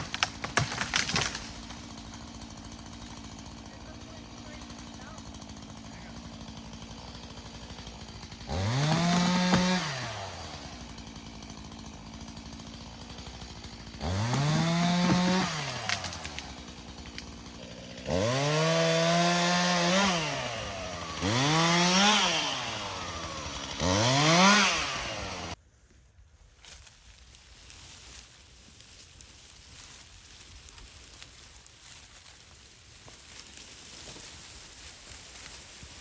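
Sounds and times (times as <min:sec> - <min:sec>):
chainsaw idling and revving: 0:00.0 - 0:25.6, 0:30.5 - 0:36.0.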